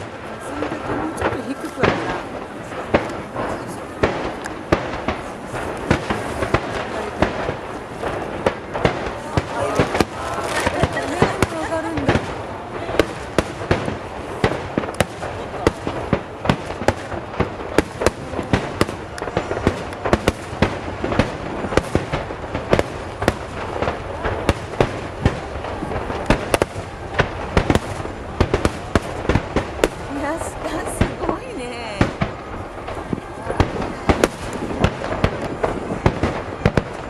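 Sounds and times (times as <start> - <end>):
continuous noisy wash: 0.0 - 37.0
fireworks bangs: 0.0 - 37.0.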